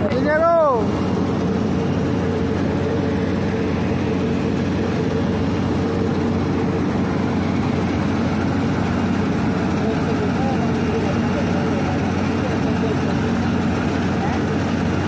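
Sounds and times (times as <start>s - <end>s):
heavy diesel drone: 0.0s - 15.0s
mid-pitched whine: 0.0s - 15.0s.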